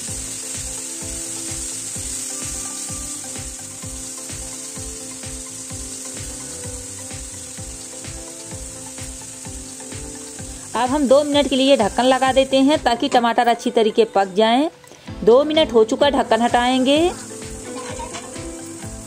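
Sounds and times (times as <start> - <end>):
vegetables frying sizzling: 0.0 - 19.0.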